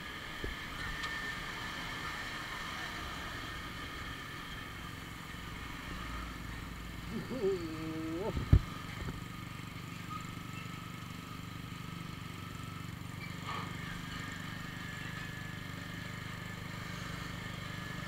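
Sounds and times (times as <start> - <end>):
motorcycle engine drone: 0.0 - 18.0
road noise: 0.0 - 18.0.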